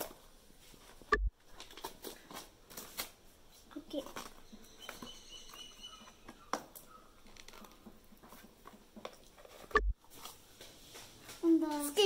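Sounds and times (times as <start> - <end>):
paper and cardboard crinkling: 0.0 - 5.1, 7.2 - 12.0.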